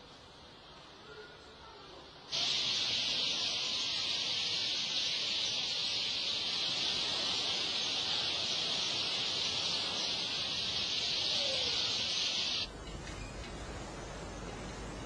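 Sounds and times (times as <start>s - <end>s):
steady high-pitched hiss: 0.0s - 15.0s.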